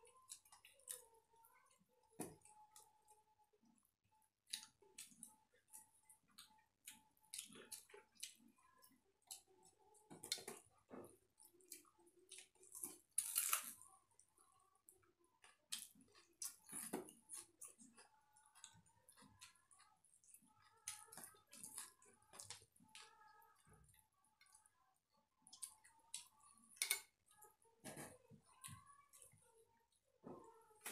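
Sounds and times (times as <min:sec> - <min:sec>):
chewing: 0:00.1 - 0:30.9.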